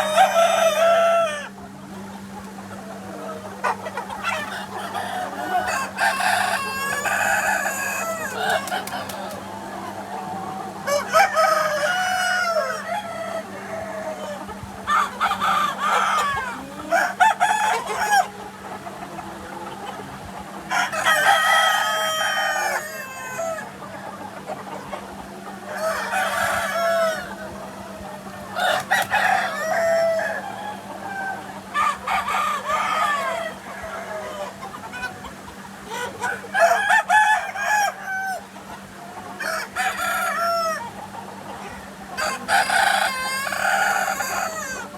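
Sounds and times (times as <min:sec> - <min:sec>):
hens clucking: 0:00.0 - 0:44.9
roosters crowing: 0:00.0 - 0:44.9.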